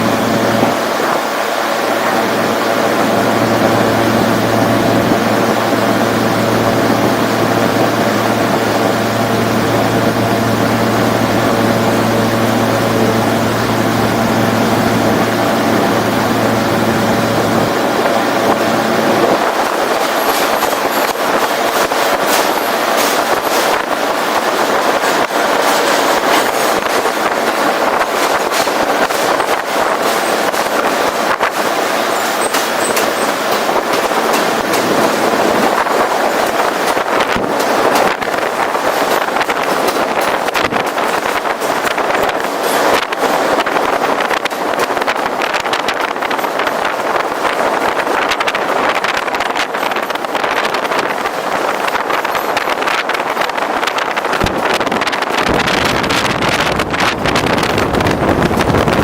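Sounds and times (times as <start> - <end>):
subway train rushing rumble: 0.0 - 59.0
wheels clicking and rattling on track: 0.0 - 59.0.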